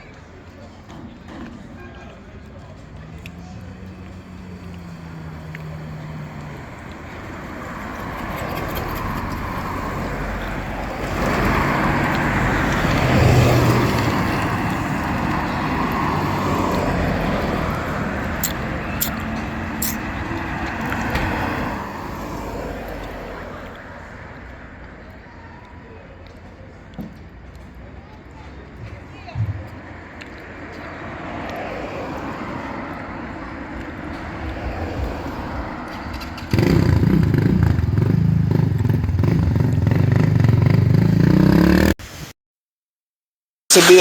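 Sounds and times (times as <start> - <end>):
motor vehicle passing: 1.3 - 29.1, 29.7 - 42.0.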